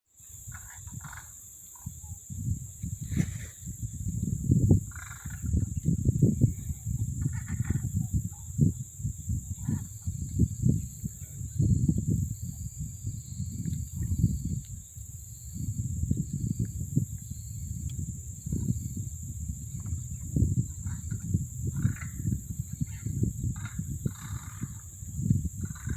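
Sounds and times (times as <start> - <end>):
high insect drone: 0.2 - 25.9
wind rumble on microphone: 0.2 - 25.9.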